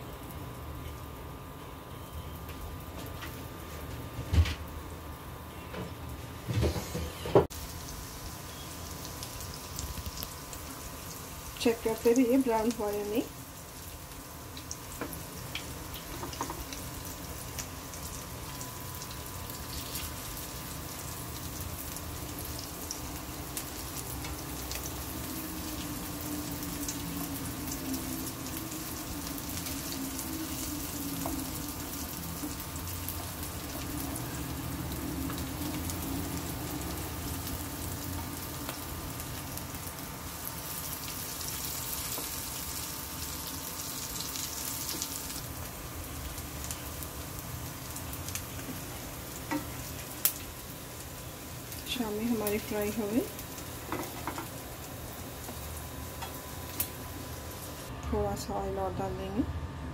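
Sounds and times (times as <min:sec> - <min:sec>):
kebabs sizzling in hot oil: 0:00.0 - 0:59.0.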